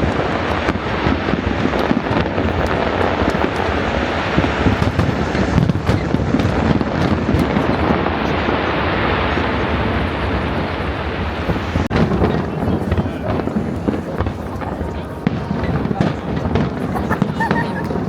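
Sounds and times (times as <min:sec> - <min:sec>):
fireworks bursting and crackling: 0:00.0 - 0:18.0.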